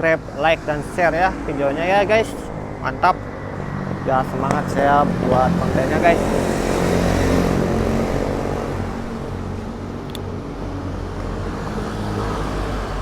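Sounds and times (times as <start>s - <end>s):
vehicle engines humming: 0.0s - 13.0s.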